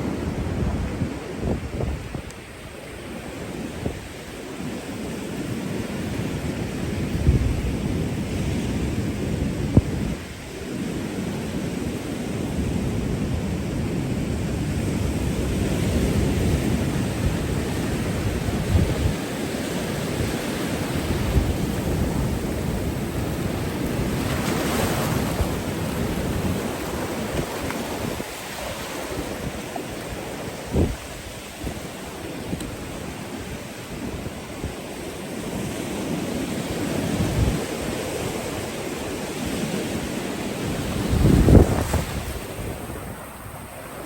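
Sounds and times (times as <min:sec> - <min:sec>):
wind buffeting microphone: 0:00.0 - 0:04.5, 0:05.4 - 0:11.8, 0:12.4 - 0:44.0
ocean surf washing ashore: 0:00.0 - 0:44.0.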